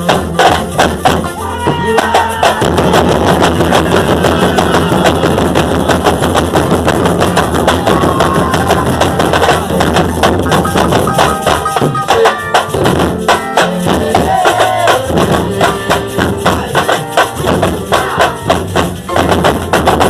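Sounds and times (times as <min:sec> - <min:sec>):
percussion band drumming: 0:00.0 - 0:20.0.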